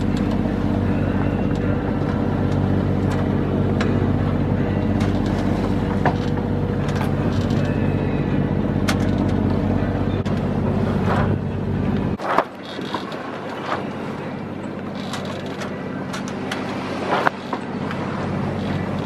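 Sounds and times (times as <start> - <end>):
boat engine running: 0.0 - 19.0
sea water washing: 0.0 - 19.0.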